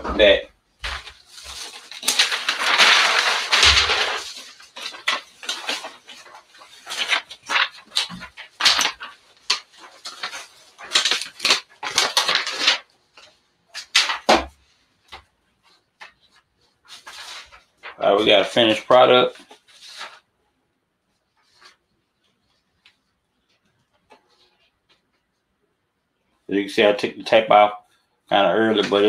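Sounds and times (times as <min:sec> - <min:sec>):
paper and fabric rustling: 0:00.2 - 0:20.4, 0:21.1 - 0:25.6, 0:27.8 - 0:29.0.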